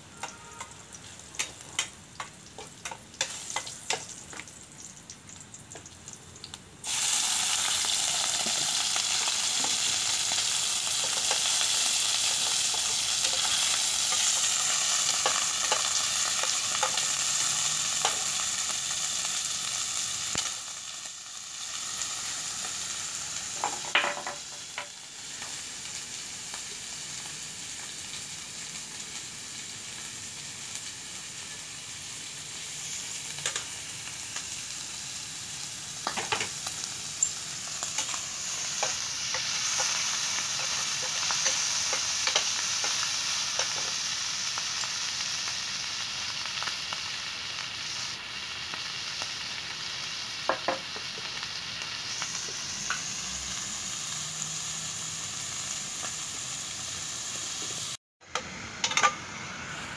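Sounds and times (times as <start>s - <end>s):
meat sizzling in oil: 0.0s - 59.9s.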